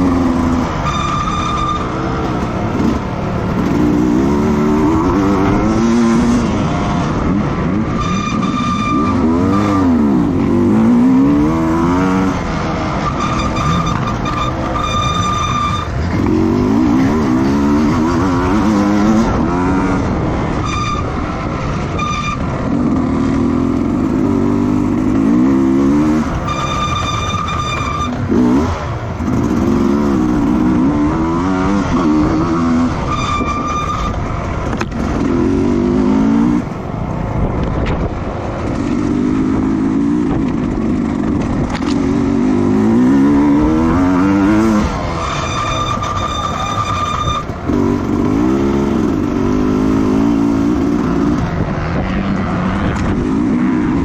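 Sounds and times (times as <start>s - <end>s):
racing engines accelerating: 0.0s - 54.0s.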